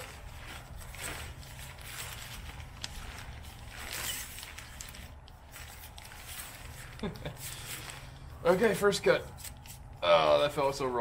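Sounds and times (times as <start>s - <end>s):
tent canvas rustling and scraping: 0.0s - 10.4s.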